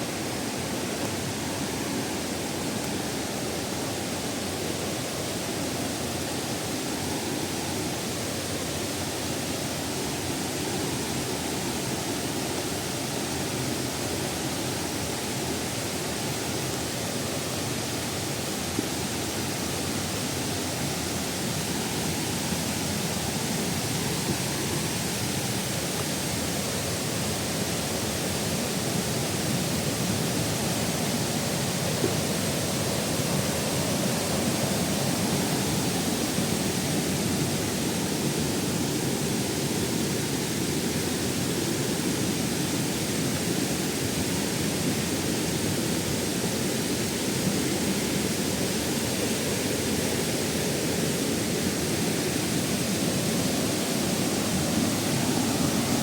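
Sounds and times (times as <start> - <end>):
waterfall pouring and splashing: 0.0 - 56.0.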